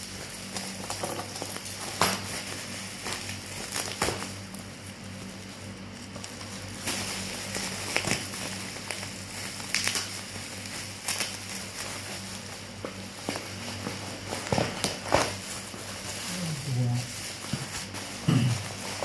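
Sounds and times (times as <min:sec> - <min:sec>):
packaging crinkling and rustling: 0:00.0 - 0:19.0
steady low hum: 0:00.0 - 0:19.0.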